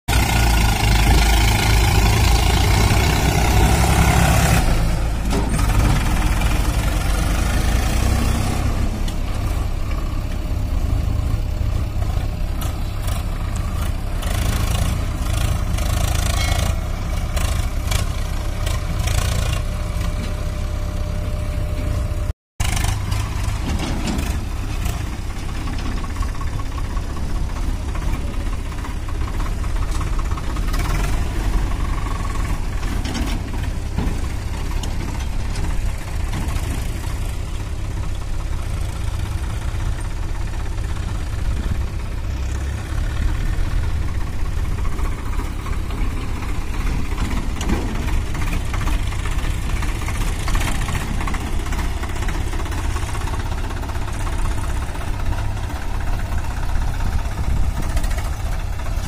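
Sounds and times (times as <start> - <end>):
tractor diesel engine under load: 0.1 - 59.0.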